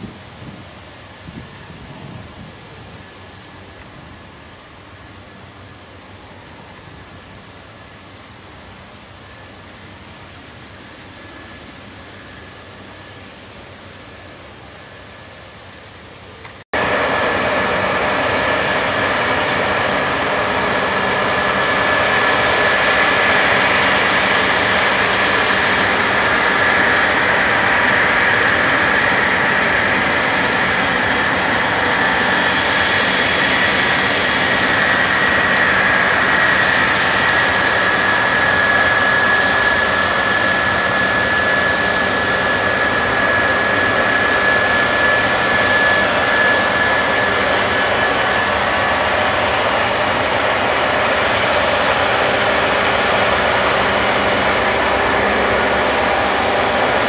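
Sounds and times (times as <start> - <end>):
combine harvester machine drone: 0.0 - 57.0
steady high whine: 0.0 - 57.0.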